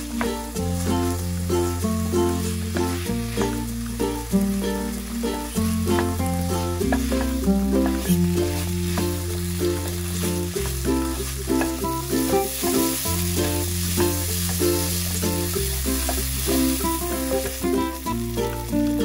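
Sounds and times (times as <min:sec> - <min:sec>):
background music with bass line: 0:00.0 - 0:19.0
curry sizzling in frying pan: 0:00.0 - 0:19.0
wooden spatula stirring: 0:00.0 - 0:19.0.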